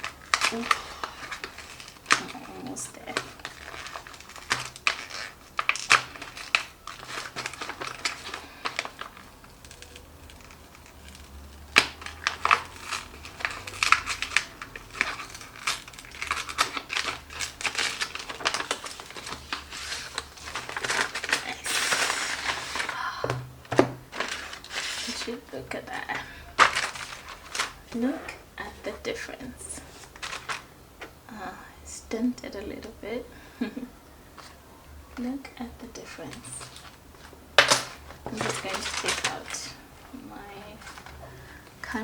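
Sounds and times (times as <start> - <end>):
cardboard packaging crinkling and tearing: 0.0 - 30.8, 35.7 - 42.0.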